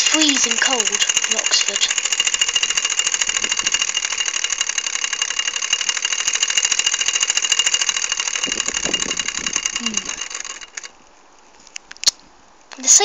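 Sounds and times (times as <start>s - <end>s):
toy steam engine chuffing: 0.0s - 11.0s.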